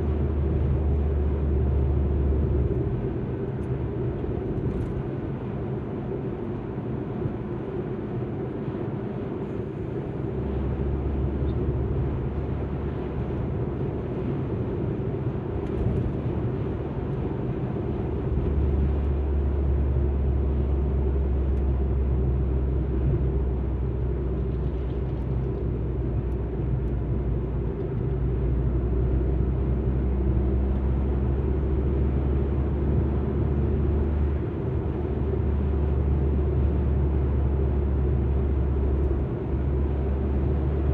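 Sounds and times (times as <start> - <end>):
car engine and road drone: 0.0 - 40.9.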